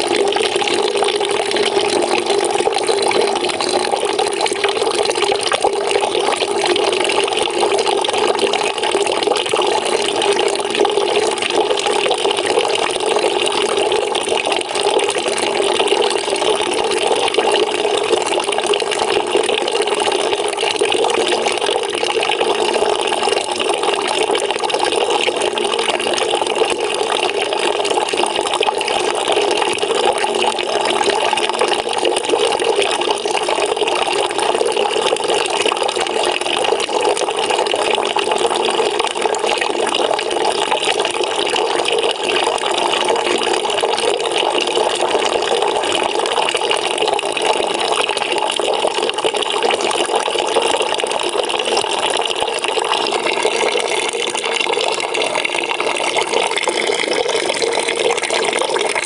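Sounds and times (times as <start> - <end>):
water pouring into bucket: 0.0 - 59.0.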